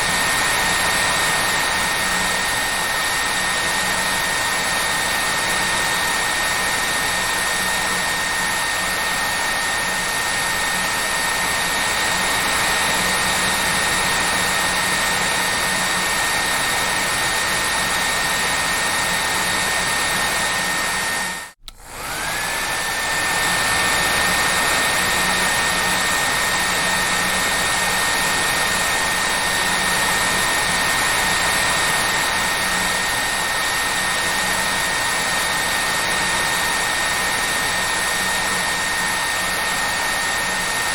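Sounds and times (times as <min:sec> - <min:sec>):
hair dryer blowing with whine: 0:00.0 - 0:40.9.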